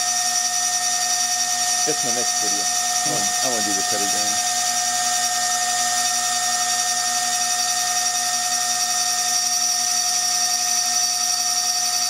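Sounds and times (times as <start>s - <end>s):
milling spindle whining: 0.0s - 12.0s.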